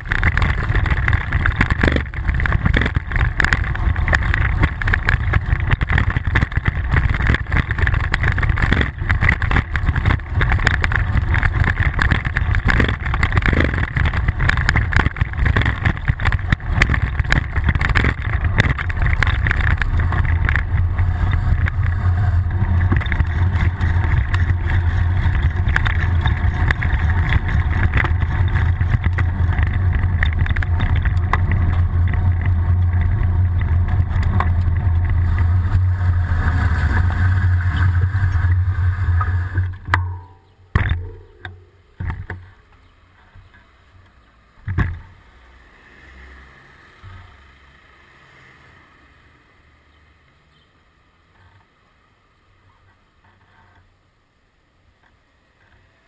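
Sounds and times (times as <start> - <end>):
bike knocks and rattles: 0.0 - 45.2
tyre road noise: 0.0 - 56.0.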